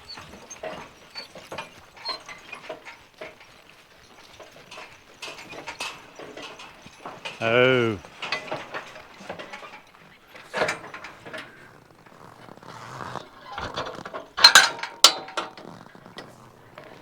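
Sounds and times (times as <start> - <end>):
metal harness hardware rattling: 0.3 - 17.0.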